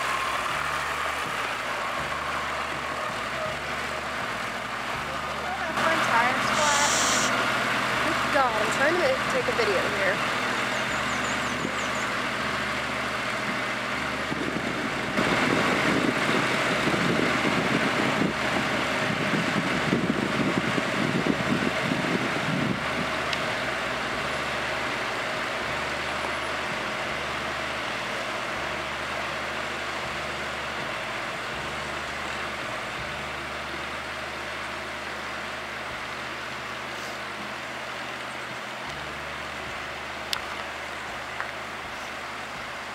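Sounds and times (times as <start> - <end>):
tractor diesel engine: 0.0 - 42.9.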